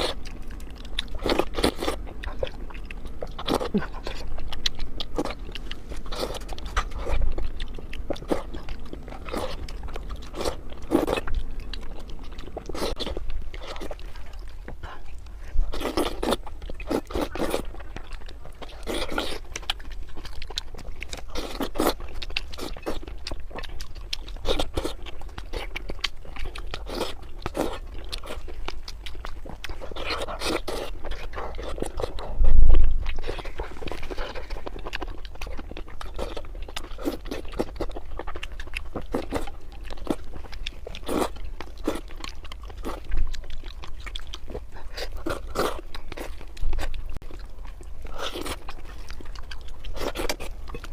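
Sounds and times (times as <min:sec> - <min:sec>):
person chewing food: 0:00.0 - 0:50.9.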